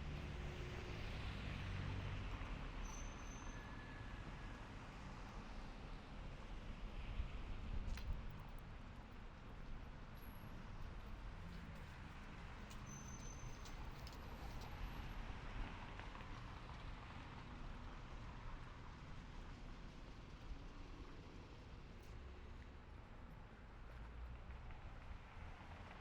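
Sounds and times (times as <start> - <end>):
low rumble of traffic: 0.0 - 26.0.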